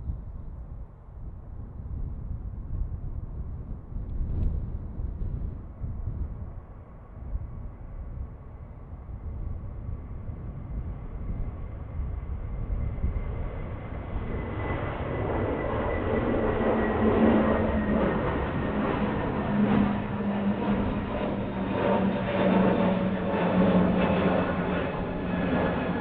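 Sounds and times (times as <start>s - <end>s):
jet engines rumbling with whine: 0.0s - 26.0s.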